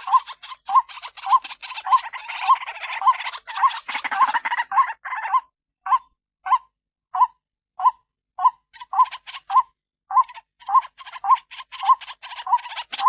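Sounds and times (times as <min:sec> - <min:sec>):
harsh bird chattering: 0:00.0 - 0:05.5, 0:07.8 - 0:13.0.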